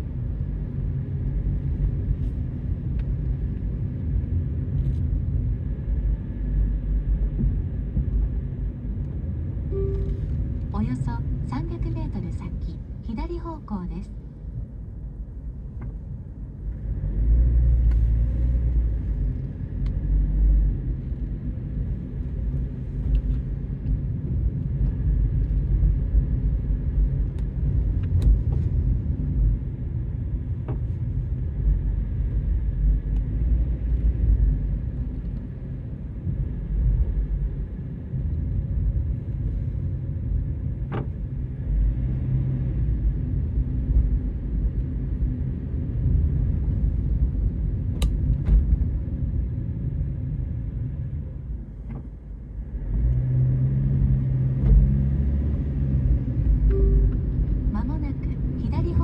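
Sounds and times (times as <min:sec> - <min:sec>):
car driving rumble inside cabin: 0:00.0 - 0:59.0.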